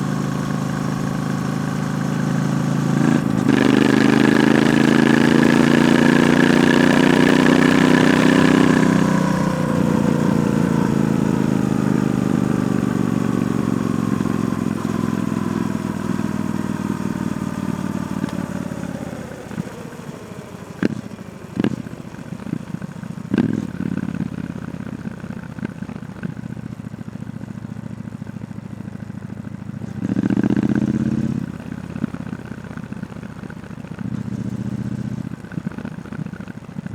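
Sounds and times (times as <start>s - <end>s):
motorcycle engine revving and idling: 0.0s - 36.9s.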